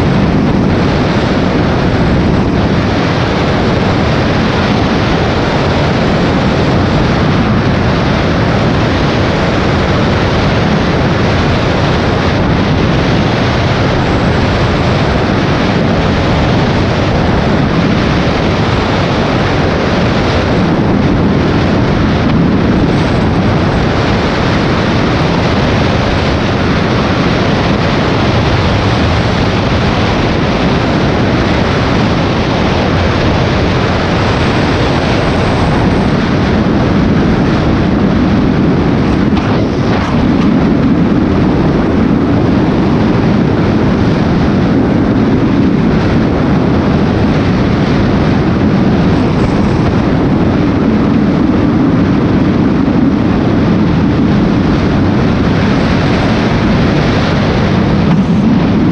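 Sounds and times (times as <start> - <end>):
motorcycle engine running: 0.0 - 52.5, 53.7 - 58.9
wind rushing over microphone: 0.0 - 58.9.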